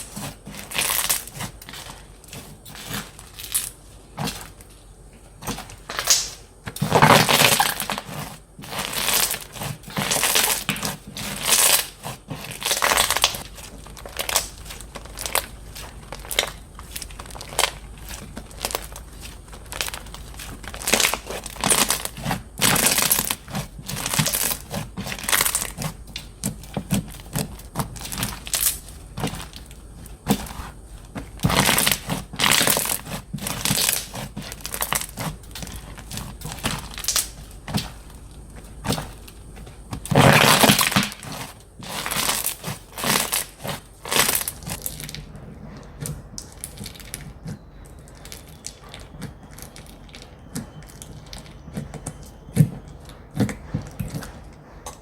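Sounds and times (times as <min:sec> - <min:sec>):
slime crackling and popping: 0:00.0 - 0:04.8, 0:05.4 - 0:45.4, 0:46.0 - 0:54.4.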